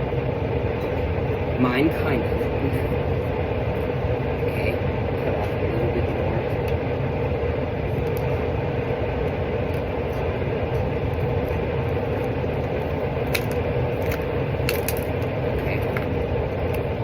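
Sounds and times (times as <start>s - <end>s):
steady background drone: 0.0s - 17.0s.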